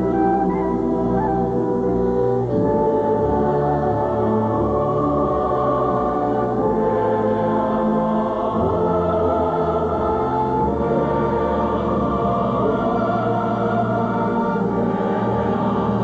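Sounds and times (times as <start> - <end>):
choir-like voices over chords: 0.0 - 16.0.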